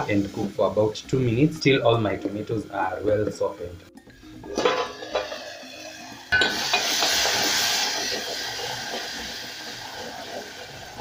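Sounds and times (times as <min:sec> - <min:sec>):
sauce sizzling in oil: 0:00.0 - 0:11.0.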